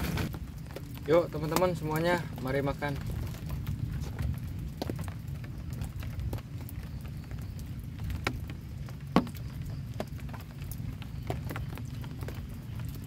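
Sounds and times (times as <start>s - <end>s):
heavy rain on a shelter: 0.0s - 13.0s
rain taps and clicks: 0.0s - 13.0s.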